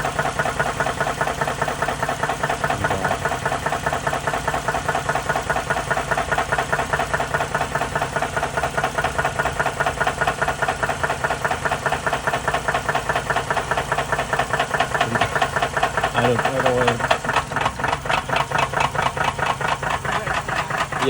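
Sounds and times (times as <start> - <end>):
engine idling with knocking: 0.0 - 21.0.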